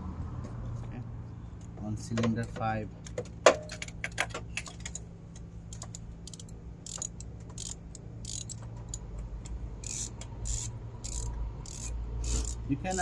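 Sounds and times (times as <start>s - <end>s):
steady low hum: 0.0s - 13.0s
metal socket clicking and scraping: 2.4s - 13.0s.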